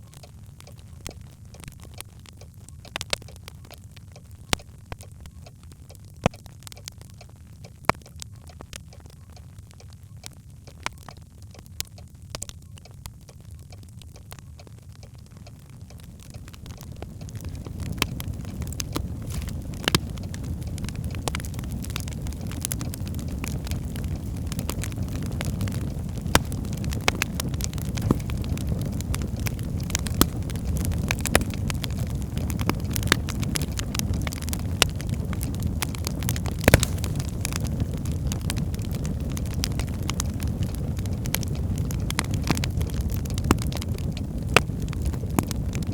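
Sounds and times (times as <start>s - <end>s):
burning wood popping: 0.0s - 45.9s
fire rumbling and crackling: 0.0s - 45.9s.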